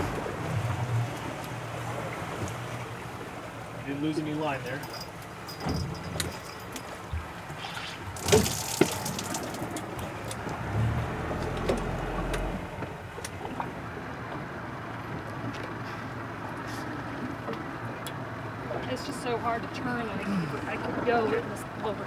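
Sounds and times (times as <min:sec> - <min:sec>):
boat engine running: 0:00.0 - 0:22.0
water sloshing against hull: 0:00.0 - 0:22.0.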